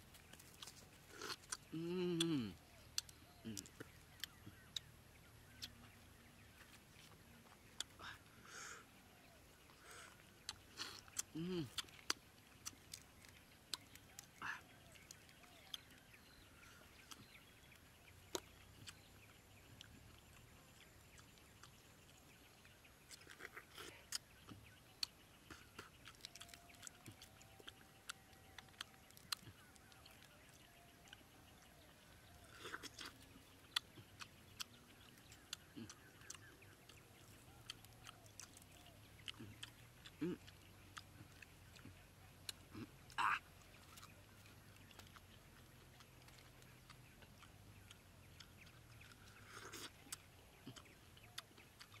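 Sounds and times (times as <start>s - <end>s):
food being handled and chewed: 0.0s - 8.4s, 9.2s - 52.0s.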